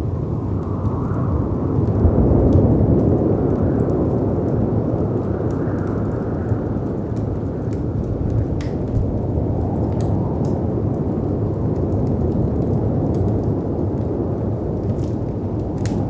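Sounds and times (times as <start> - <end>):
wood fire crackling: 3.0 - 16.0.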